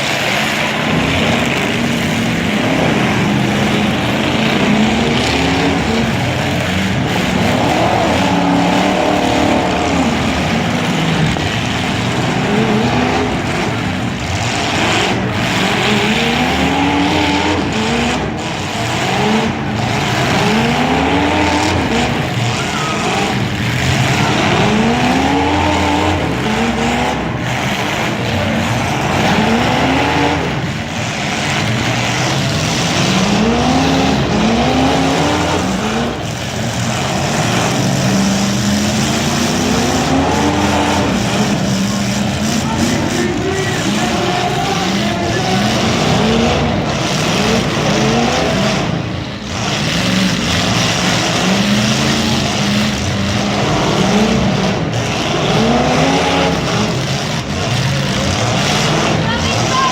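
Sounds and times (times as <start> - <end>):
car engines revving hard: 0.0 - 59.9
din of engine noise: 0.0 - 59.9.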